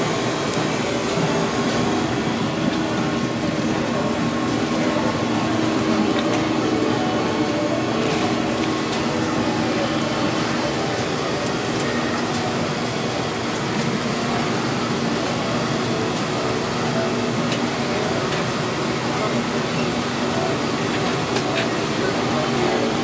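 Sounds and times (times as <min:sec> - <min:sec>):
ventilation fan humming: 0:00.0 - 0:23.0.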